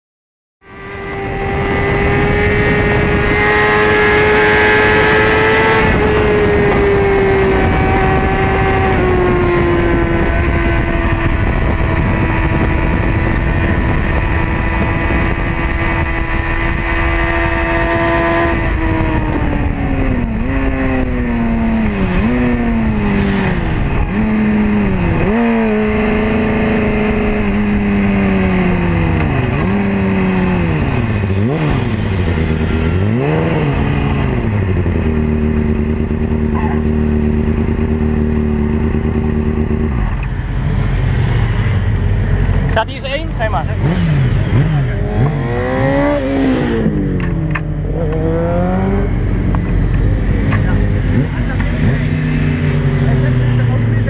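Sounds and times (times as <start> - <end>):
motorcycle engine revving: 0.6 - 54.0.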